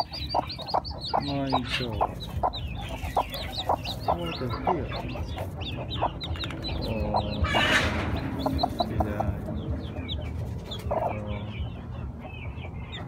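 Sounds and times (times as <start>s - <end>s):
hen clucking low: 0.0s - 12.8s
chicks peeping: 0.0s - 13.0s.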